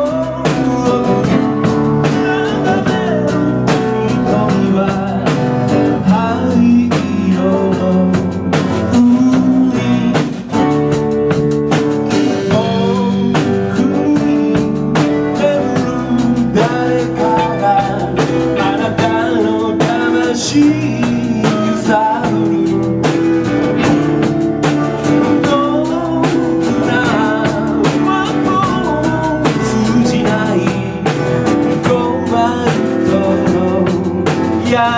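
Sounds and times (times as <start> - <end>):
person singing: 0.0 - 11.0, 12.1 - 34.9
drum kit beat: 0.0 - 34.9
guitar: 0.0 - 34.9.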